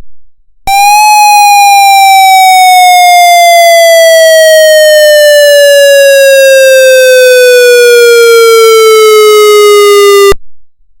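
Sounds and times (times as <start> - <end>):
electronic siren wail: 0.7 - 10.4.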